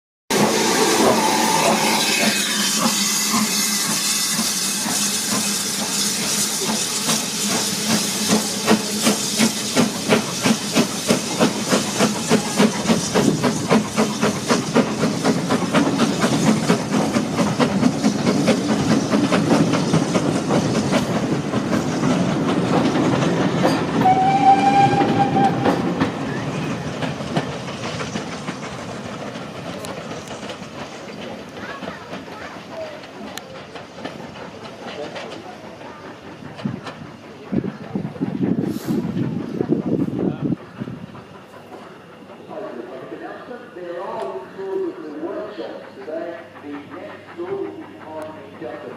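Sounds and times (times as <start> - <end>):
steam hissing: 0.3 - 48.9
steam locomotive chuffing: 0.3 - 48.9.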